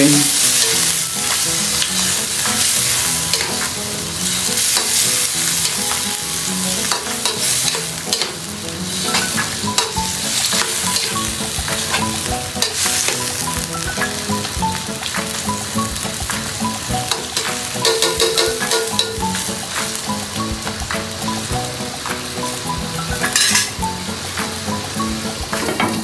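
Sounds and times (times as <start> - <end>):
utensil stirring in a pan: 0.0 - 22.2
food sizzling in a pan: 0.0 - 26.0.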